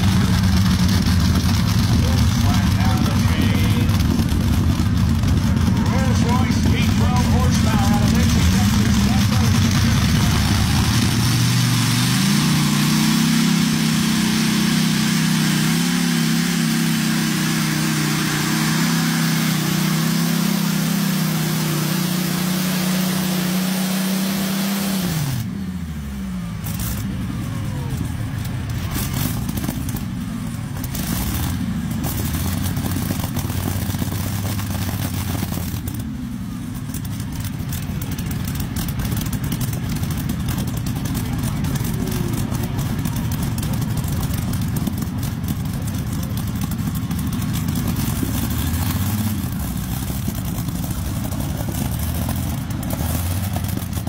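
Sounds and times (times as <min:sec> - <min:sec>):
aero engine running loud: 0:00.0 - 0:54.0.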